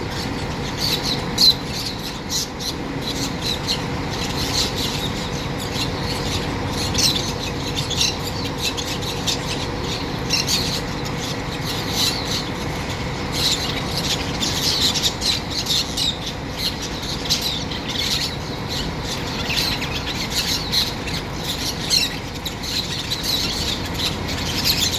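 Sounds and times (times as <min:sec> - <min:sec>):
birds squawking: 0:00.0 - 0:24.9.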